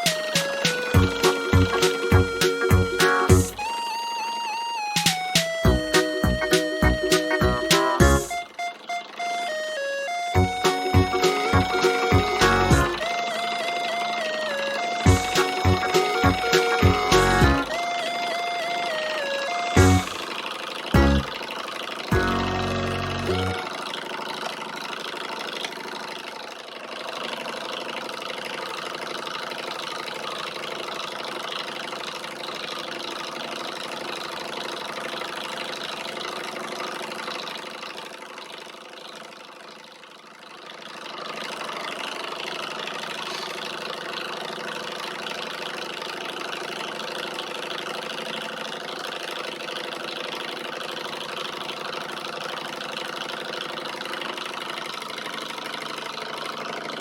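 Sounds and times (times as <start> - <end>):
stirling engine running: 0.0 - 57.0.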